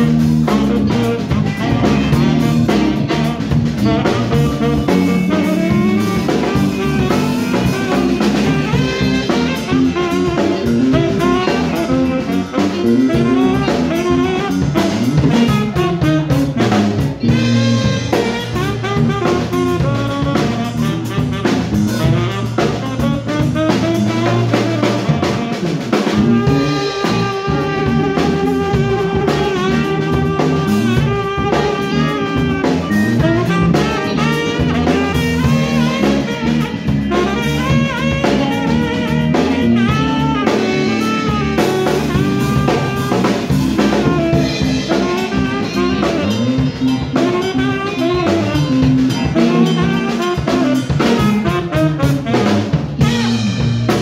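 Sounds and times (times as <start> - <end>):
funk band playing: 0.0 - 54.0
tenor saxophone solo: 0.0 - 54.0.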